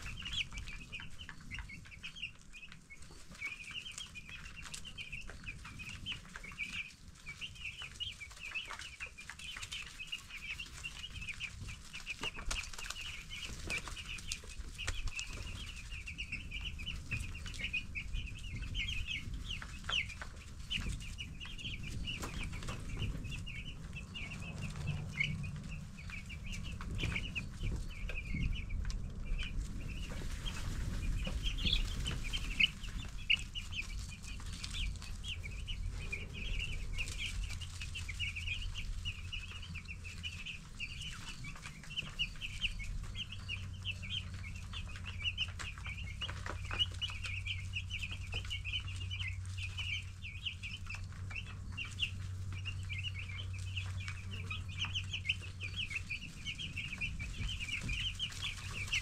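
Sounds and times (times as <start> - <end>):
chicks peeping: 0.0 - 59.0
low steady rumble: 0.0 - 59.0.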